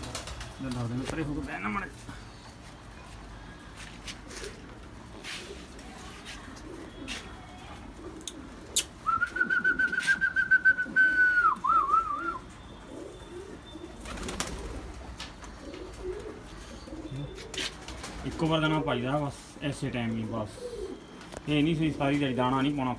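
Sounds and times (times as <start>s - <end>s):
pigeons cooing: 4.0s - 22.9s.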